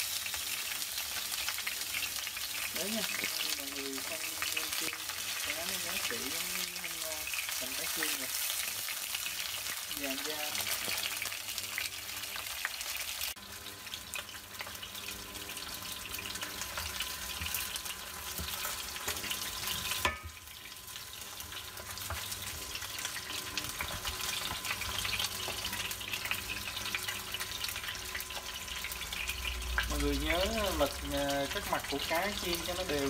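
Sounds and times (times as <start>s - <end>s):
fish sizzling in hot oil: 0.0s - 33.0s.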